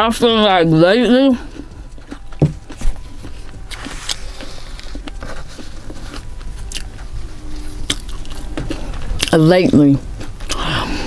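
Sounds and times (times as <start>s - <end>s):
person chewing food: 1.4s - 11.0s.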